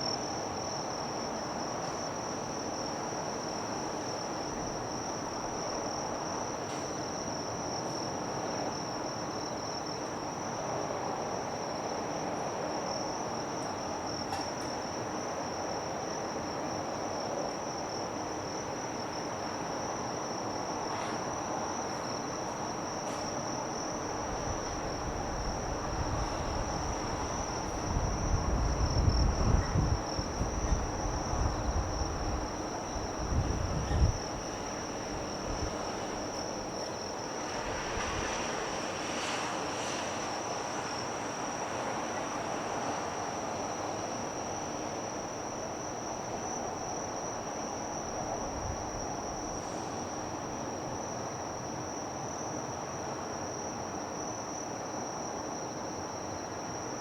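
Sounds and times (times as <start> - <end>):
insects trilling: 11.4 - 57.0.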